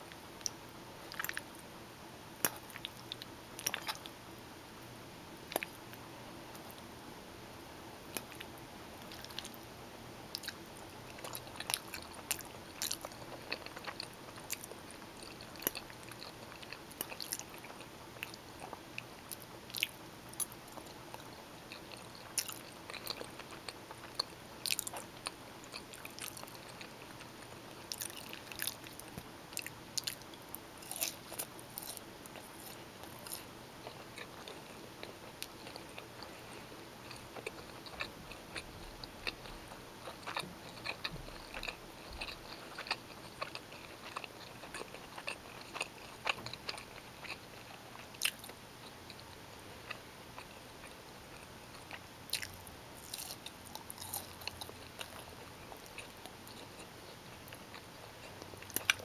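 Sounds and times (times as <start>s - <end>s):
faint steady hum: 0.0s - 59.0s
person chewing pasta: 0.4s - 1.6s, 2.4s - 4.2s, 8.1s - 9.6s, 10.3s - 59.0s.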